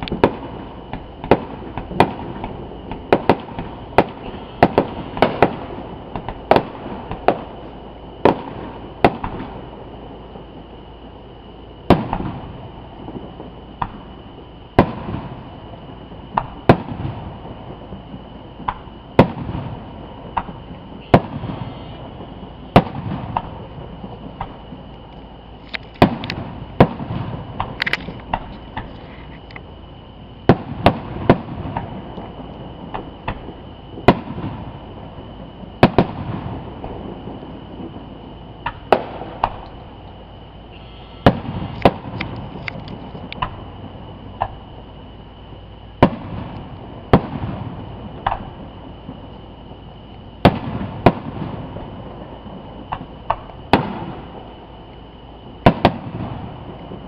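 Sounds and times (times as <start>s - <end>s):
fireworks bangs: 0.0s - 29.5s, 30.2s - 57.0s.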